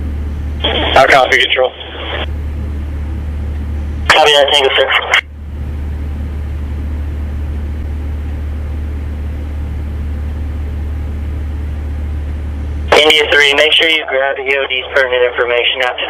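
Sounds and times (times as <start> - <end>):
low mechanical drone with hiss: 0.0 - 16.0.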